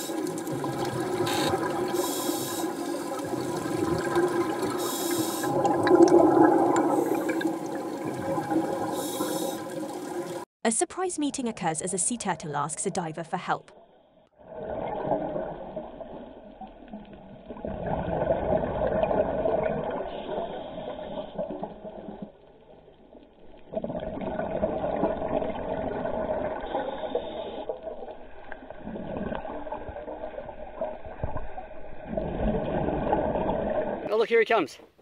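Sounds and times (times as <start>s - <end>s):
underwater gurgling and rushing: 0.0s - 10.5s, 13.8s - 34.1s.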